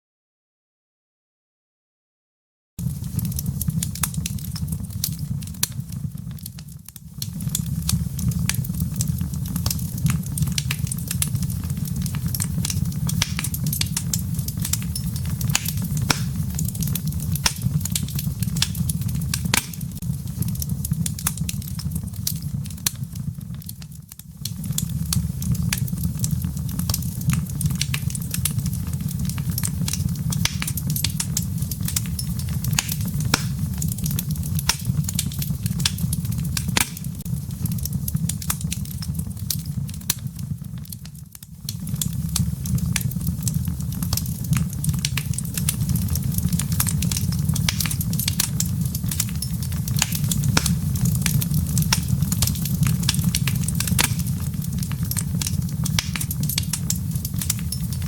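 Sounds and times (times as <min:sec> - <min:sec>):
fireplace fire crackling: 0:02.8 - 0:58.0.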